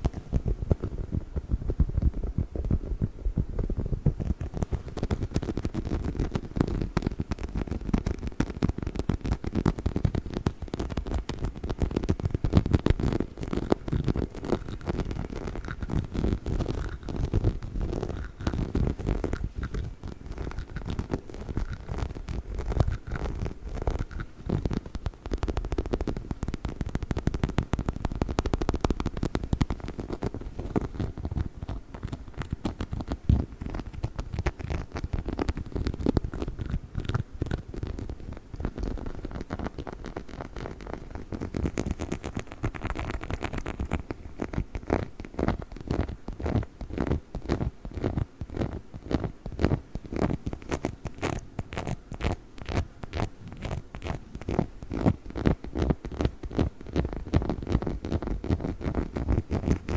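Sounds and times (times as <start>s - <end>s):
scratching and tapping on toy: 4.2s - 59.9s.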